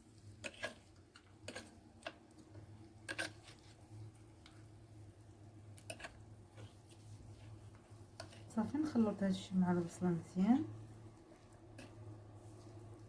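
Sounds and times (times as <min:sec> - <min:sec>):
low steady hum: 0:02.1 - 0:13.0.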